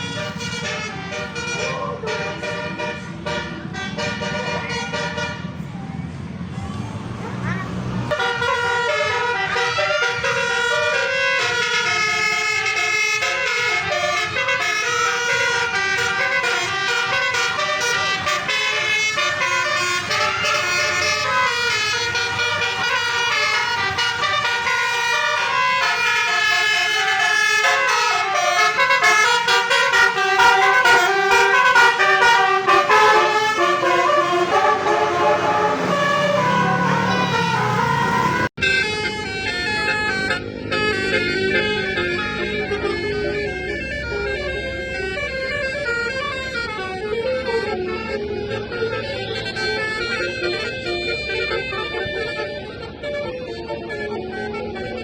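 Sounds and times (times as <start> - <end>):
melodic bus horns: 0.0 - 5.7, 7.3 - 55.0.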